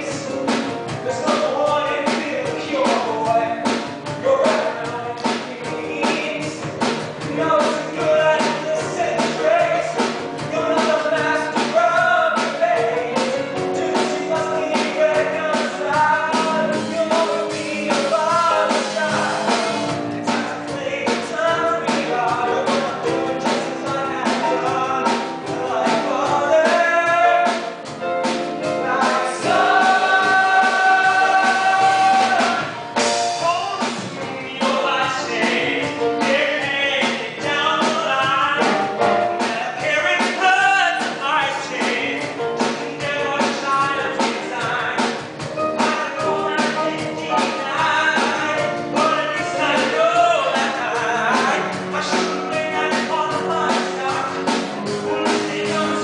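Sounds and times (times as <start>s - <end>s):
instrumental accompaniment: 0.0s - 56.0s
men singing show tune: 0.0s - 56.0s.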